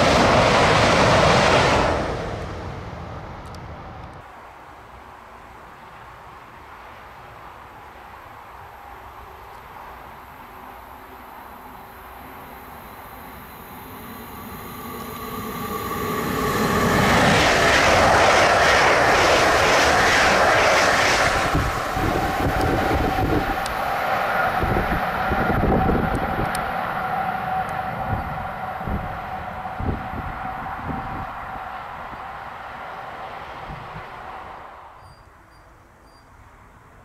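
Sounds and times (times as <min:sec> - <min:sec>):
high-speed train passing: 0:00.0 - 0:37.0.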